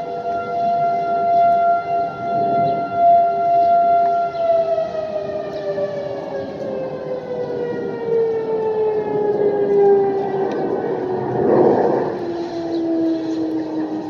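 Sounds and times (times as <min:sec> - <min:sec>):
lower siren tone: 0:00.0 - 0:14.0
warning siren winding down: 0:00.0 - 0:14.0.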